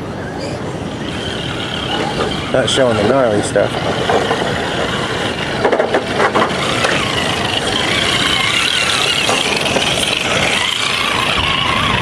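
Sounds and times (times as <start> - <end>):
ocean surf: 0.0 - 12.0
toy truck electric motors whining: 0.3 - 12.0.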